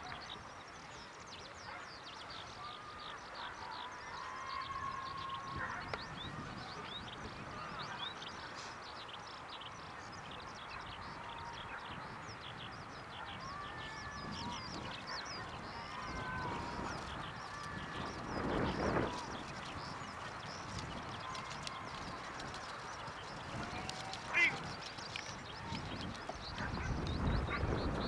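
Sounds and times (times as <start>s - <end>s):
birds chirping and twittering: 0.0s - 28.0s
drawn-out low bird calls: 0.0s - 28.0s.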